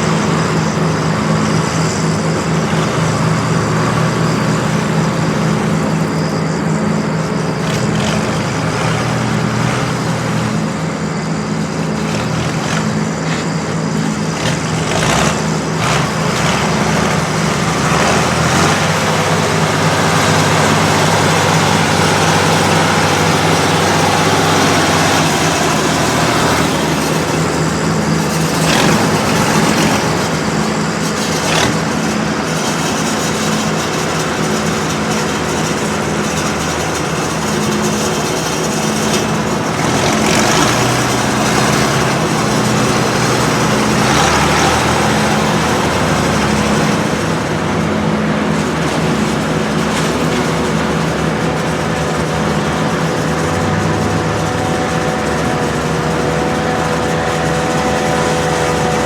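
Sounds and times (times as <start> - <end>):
forage harvester mechanical noise: 0.0 - 59.0
tractor engines running: 0.0 - 59.0.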